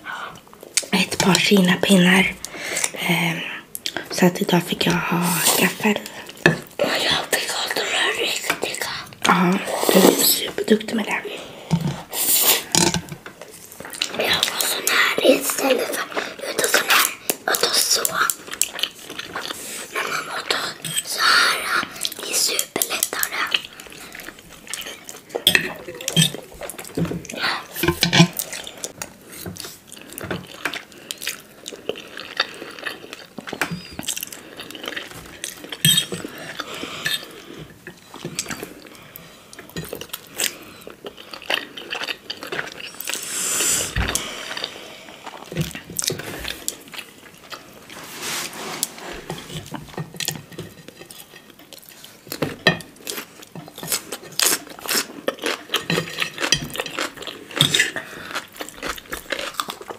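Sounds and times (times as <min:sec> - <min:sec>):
chewing and slurping: 0:11.7 - 0:59.9.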